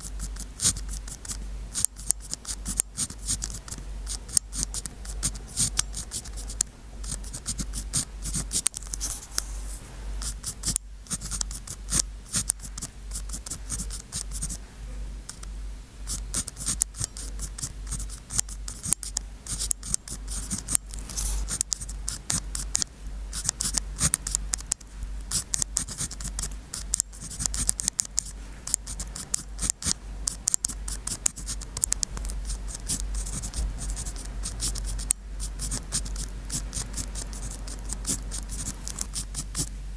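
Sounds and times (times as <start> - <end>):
pen scratching on paper: 0.0 - 14.6, 16.1 - 39.7.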